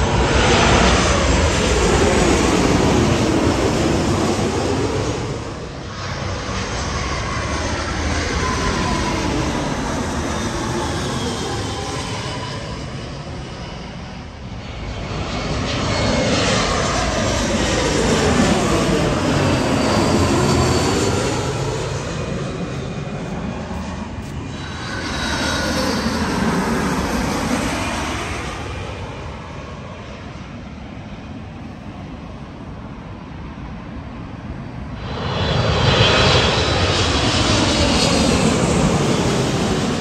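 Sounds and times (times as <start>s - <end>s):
airliner engine roar: 0.0s - 40.0s.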